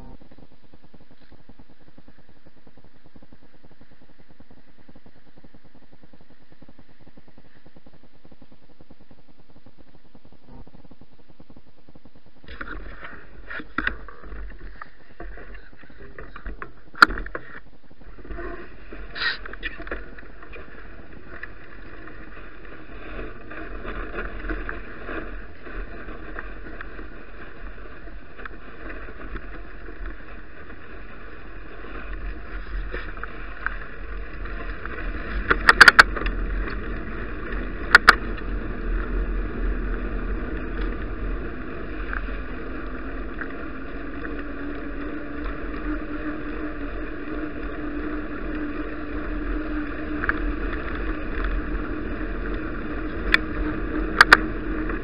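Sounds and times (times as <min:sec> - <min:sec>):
bicycle tyres on snow: 0:00.0 - 0:55.0
wind noise: 0:00.0 - 0:55.0.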